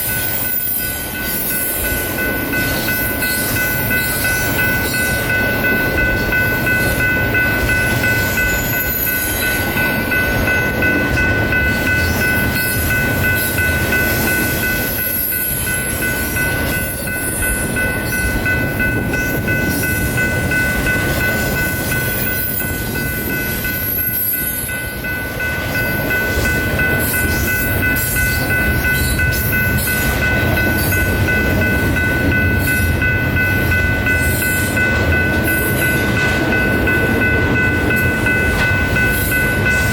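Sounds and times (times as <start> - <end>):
train cars rumbling on rails: 0.0 - 39.9.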